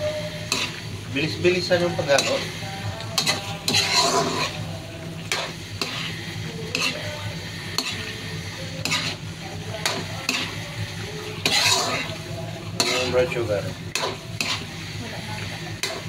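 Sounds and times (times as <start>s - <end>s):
pan sizzling: 0.0s - 16.0s
ladle scraping a pan: 0.3s - 16.0s.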